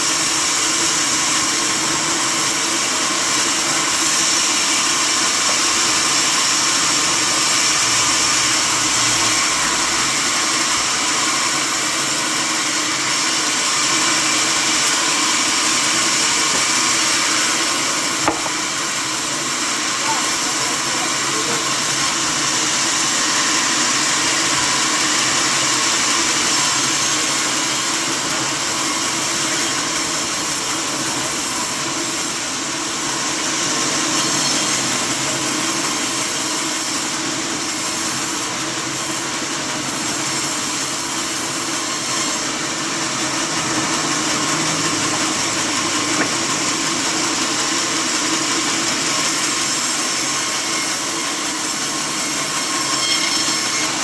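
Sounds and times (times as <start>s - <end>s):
saw cutting through timber: 0.0s - 54.0s.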